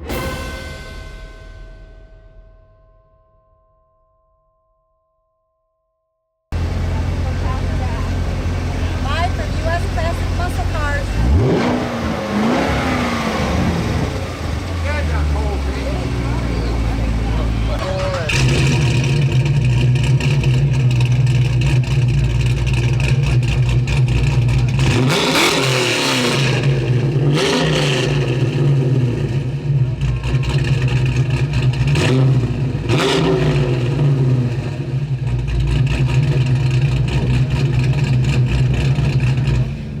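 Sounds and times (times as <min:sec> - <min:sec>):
car engine idling and revving: 0:06.5 - 0:40.0.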